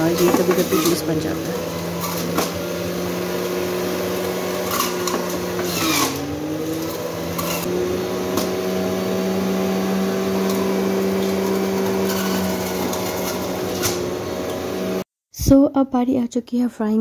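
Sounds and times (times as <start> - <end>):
juicer motor running: 0.0 - 15.1.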